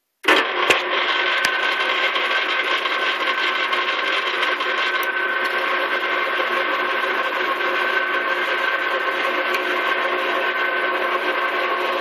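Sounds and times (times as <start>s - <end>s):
metal lathe whining: 0.4s - 12.0s.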